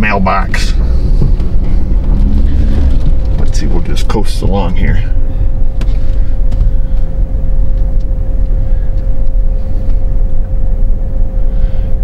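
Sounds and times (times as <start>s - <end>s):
thin steady whine: 0.0s - 12.0s
truck and tyres rumbling: 0.0s - 12.0s.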